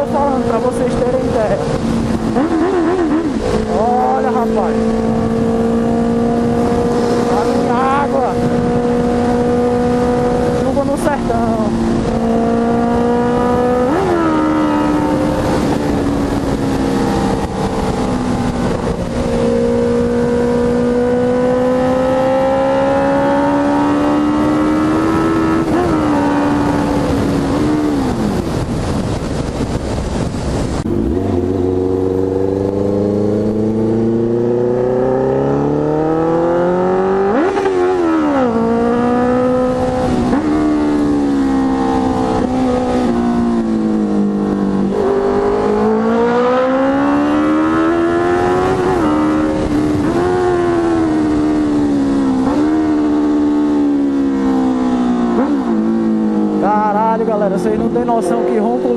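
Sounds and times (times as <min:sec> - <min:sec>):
motorcycle engine revving: 0:00.0 - 0:58.9
wind noise: 0:00.0 - 0:58.9.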